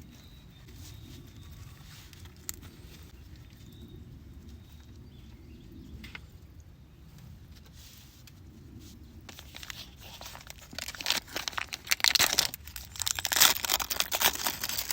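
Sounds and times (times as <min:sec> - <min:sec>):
low outdoor rumble: 0:00.0 - 0:14.9.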